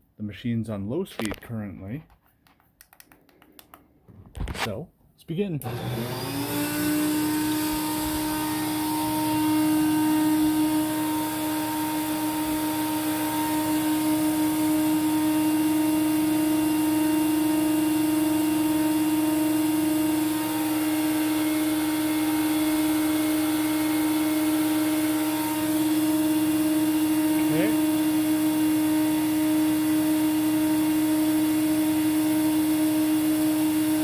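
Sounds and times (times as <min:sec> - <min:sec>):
vacuum cleaner motor humming: 0:05.6 - 0:34.0.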